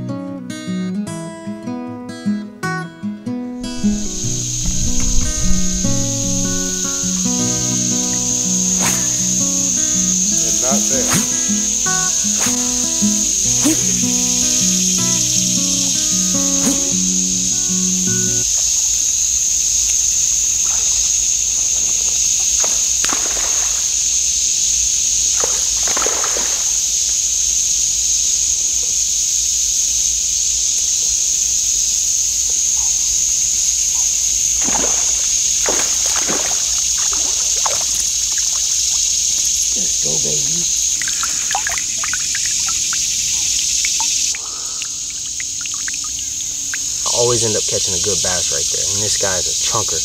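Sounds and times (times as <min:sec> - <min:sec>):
insects droning: 0:00.0 - 0:50.0
water splashing: 0:03.6 - 0:27.8, 0:32.8 - 0:50.0.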